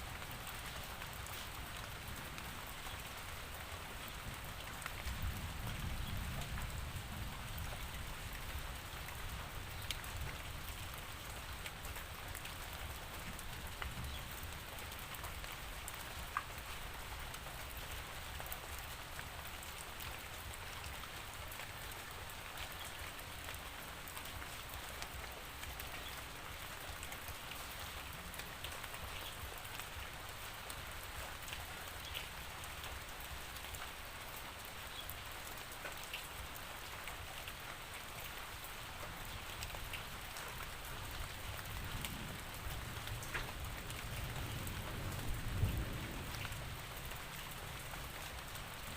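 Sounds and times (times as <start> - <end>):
rain hissing on surfaces: 0.0 - 48.9.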